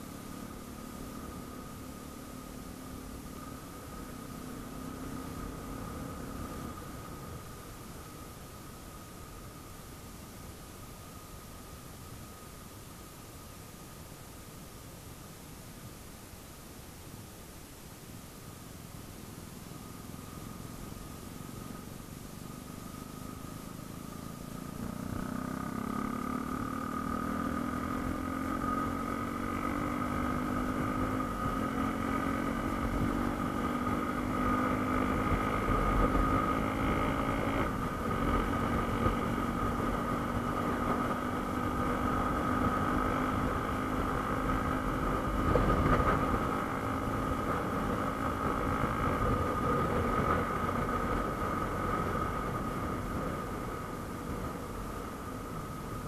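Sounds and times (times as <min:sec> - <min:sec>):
motorcycle engine running: 0:00.0 - 0:08.6, 0:19.7 - 0:56.0.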